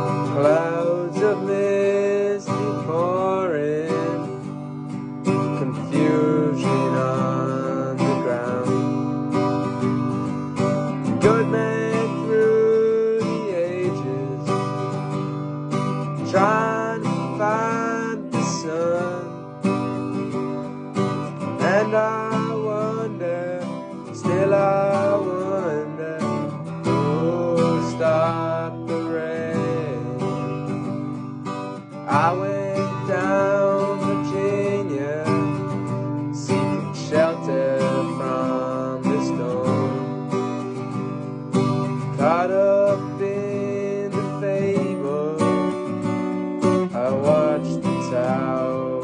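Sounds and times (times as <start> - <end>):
country rock band music: 0.0 - 49.0
strummed acoustic guitar: 0.0 - 49.0.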